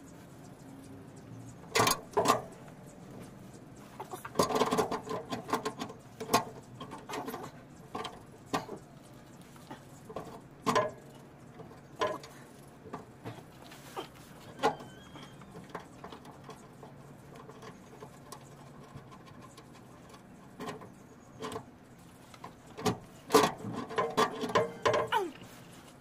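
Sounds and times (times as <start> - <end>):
metal rattling: 1.5 - 25.3.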